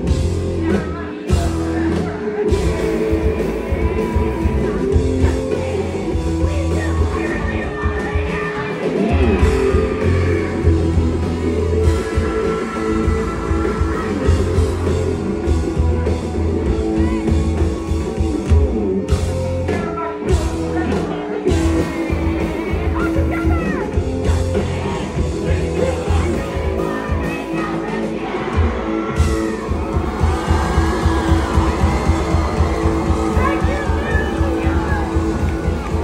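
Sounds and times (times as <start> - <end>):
person singing: 0.0 - 18.2, 19.6 - 36.0
punk rock band playing: 0.0 - 36.0.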